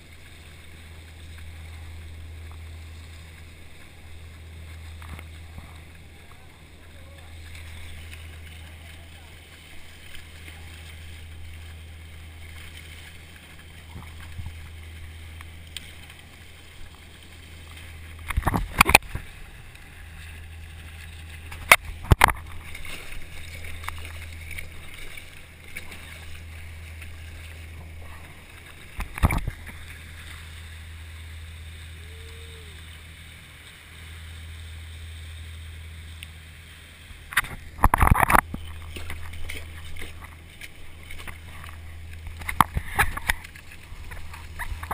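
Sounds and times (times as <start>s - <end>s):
steady low drone: 0.0s - 44.9s
water rushing around hull: 0.0s - 44.9s.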